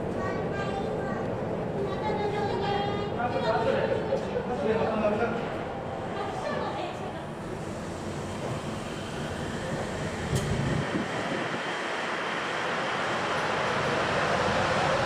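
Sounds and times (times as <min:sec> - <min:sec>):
train running with faint whine: 0:00.0 - 0:15.0.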